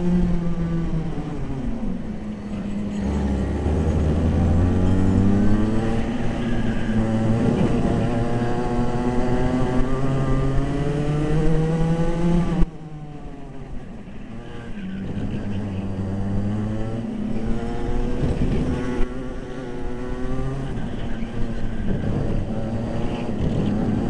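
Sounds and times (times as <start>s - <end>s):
kart engines revving: 0.0s - 24.0s.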